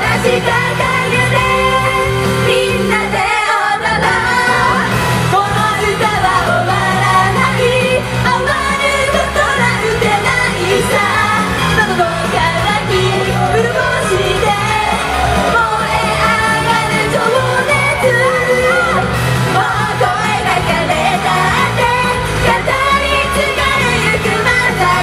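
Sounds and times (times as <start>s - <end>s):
group singing pop live: 0.0s - 25.0s
pop backing track: 0.0s - 25.0s.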